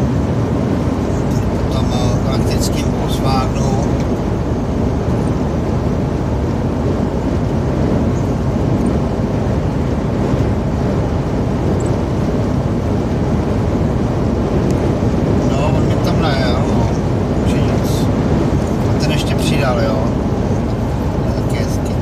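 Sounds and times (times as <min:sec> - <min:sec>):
lorry engine rumbling: 0:00.0 - 0:22.0
tyres on wet road: 0:00.0 - 0:22.0.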